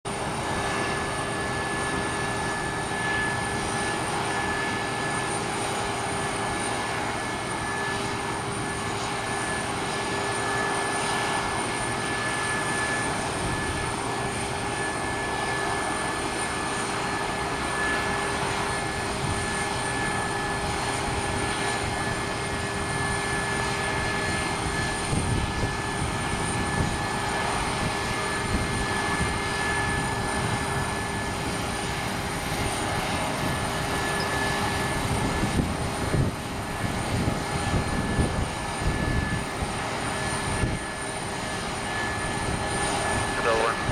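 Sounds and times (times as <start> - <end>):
jet turbine whining: 0.1 - 43.9.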